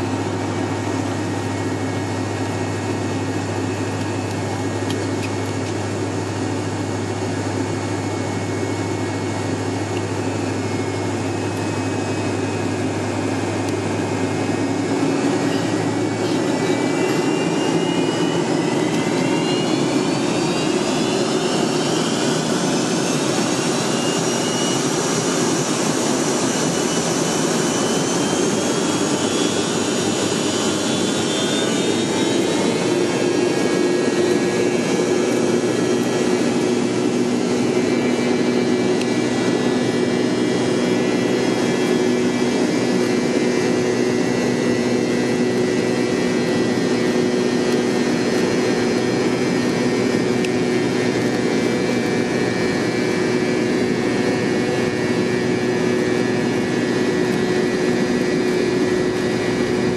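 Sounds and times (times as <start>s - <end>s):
high whine falling in pitch: 0.0s - 59.9s
jet engine drone: 0.0s - 59.9s.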